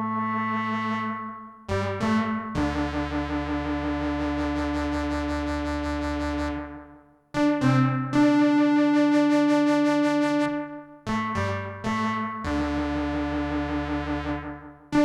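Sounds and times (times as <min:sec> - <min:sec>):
synthesizer chords with delay: 0:00.0 - 0:15.0.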